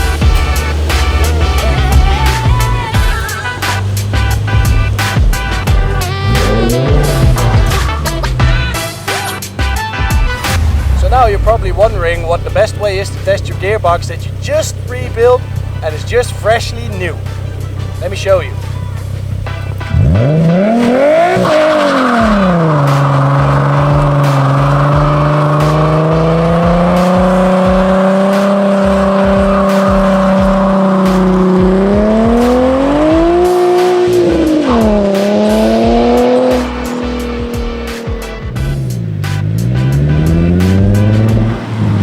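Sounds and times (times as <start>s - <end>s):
car engine revving high: 0.0s - 42.0s
tyres squealing: 0.0s - 42.0s.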